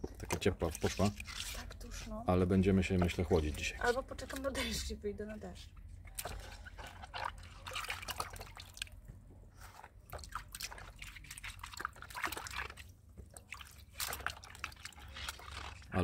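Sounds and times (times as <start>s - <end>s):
water splashing and sloshing in basin: 0.0s - 16.0s.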